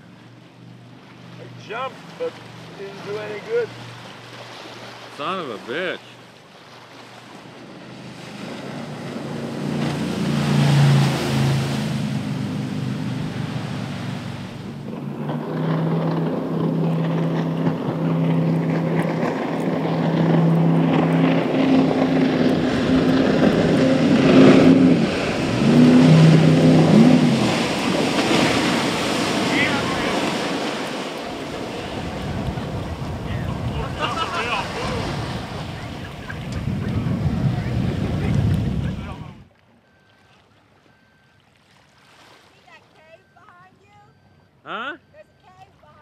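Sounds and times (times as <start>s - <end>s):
water rushing under hull: 0.0s - 43.4s
jet boat engine: 0.0s - 46.0s.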